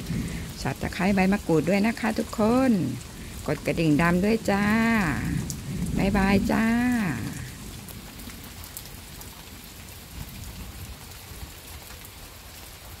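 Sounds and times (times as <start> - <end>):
rain on leaves: 0.0 - 13.0.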